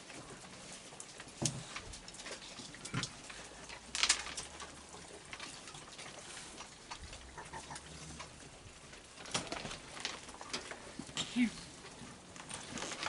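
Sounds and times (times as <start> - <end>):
raccoons crunching and chewing: 0.0 - 13.0.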